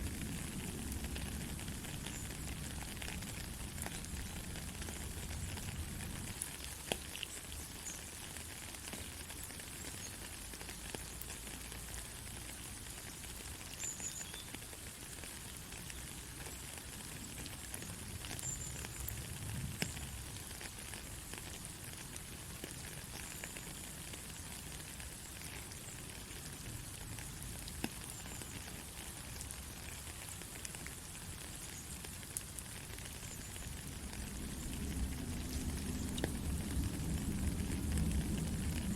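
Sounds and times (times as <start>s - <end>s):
soft rain falling: 0.0s - 38.9s.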